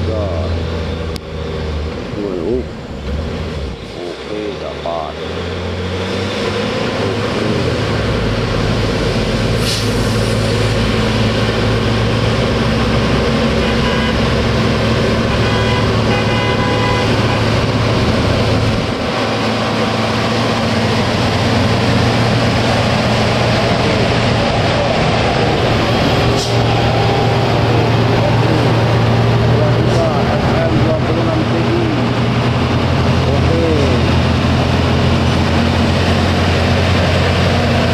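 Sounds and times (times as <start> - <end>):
diesel truck engine labouring: 0.0 - 37.9.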